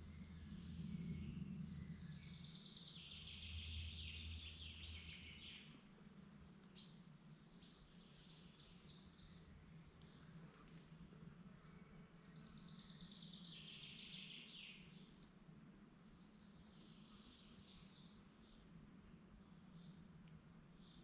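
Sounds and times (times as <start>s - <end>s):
faint low hum: 0.0s - 21.0s
songbirds singing faintly: 0.0s - 21.0s.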